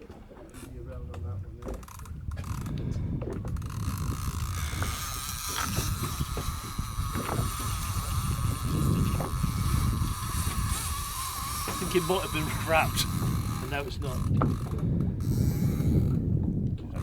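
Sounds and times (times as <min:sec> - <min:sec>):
boat engine low rumble: 0:00.0 - 0:17.0.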